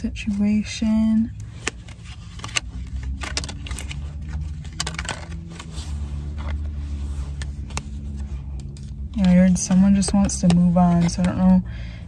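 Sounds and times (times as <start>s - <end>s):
car engine idling: 0.0s - 12.0s
cards being shuffled: 1.4s - 11.5s.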